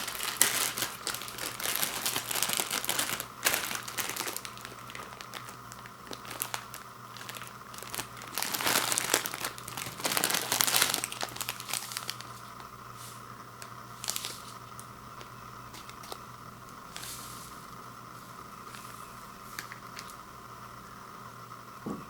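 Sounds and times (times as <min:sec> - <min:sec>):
plastic wrapper crinkling: 0:00.0 - 0:17.7, 0:18.6 - 0:20.2.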